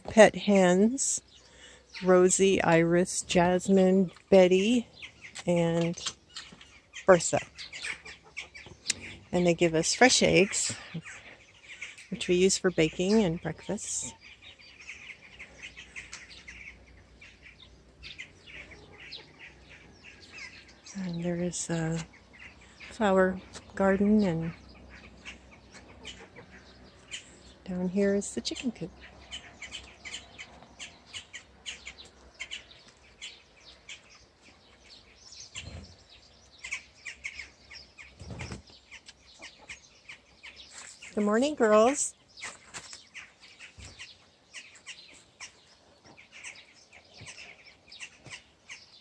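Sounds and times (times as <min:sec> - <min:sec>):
faint songbirds chirping: 0:00.0 - 0:49.0.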